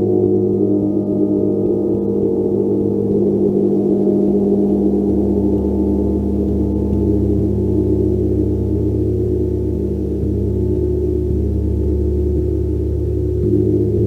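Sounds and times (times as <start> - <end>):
large gong droning: 0.0 - 14.0.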